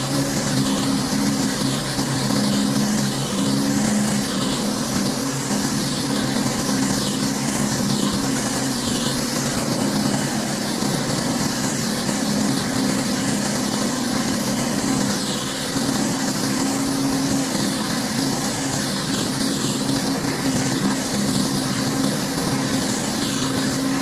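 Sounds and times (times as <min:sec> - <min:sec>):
pressure washer engine running: 0:00.0 - 0:24.0.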